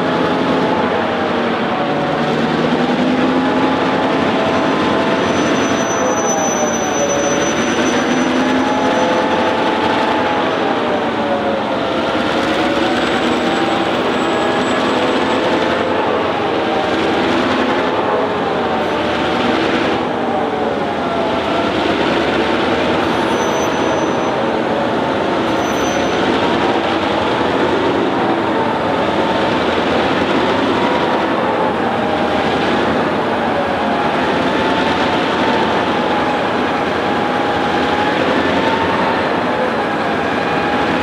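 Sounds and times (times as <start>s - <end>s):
diesel locomotive engines droning: 0.0s - 41.0s
train rumbling on rails: 0.0s - 41.0s.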